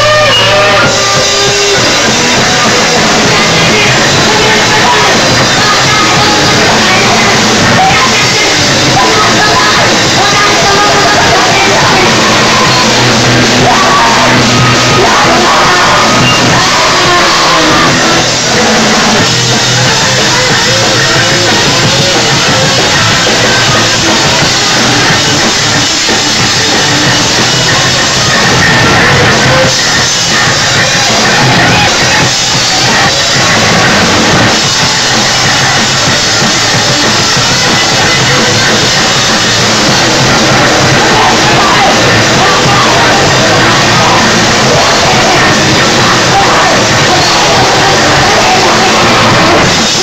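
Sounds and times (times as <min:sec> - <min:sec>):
drum kit: 0:00.0 - 0:50.0
electric guitars: 0:00.0 - 0:50.0.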